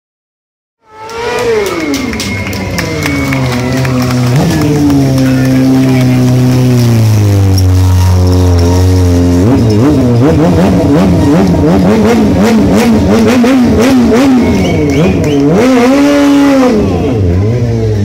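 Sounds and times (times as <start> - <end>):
motorcycle engine revving: 0.8 - 18.0.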